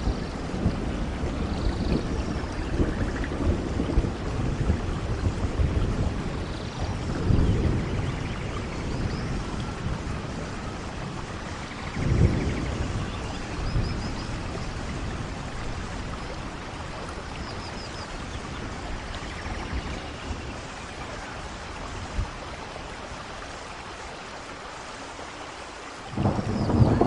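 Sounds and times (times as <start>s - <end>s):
thunder rumbling: 0.0s - 23.2s, 26.1s - 27.0s
heavy rain downpour: 0.0s - 27.0s.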